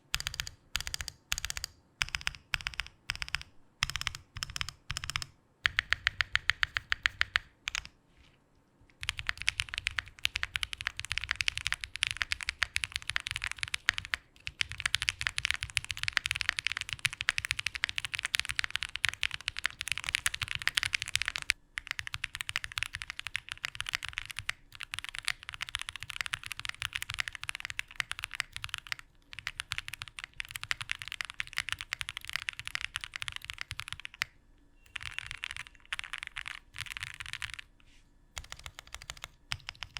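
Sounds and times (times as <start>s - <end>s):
fast typing on mechanical keyboard: 0.1s - 7.9s, 9.0s - 34.3s, 34.9s - 37.7s, 38.4s - 39.9s.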